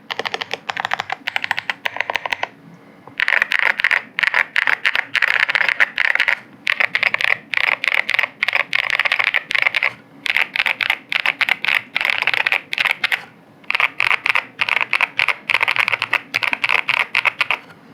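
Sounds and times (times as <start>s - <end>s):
mechanical keyboard typing: 0.0s - 2.6s, 3.2s - 17.7s.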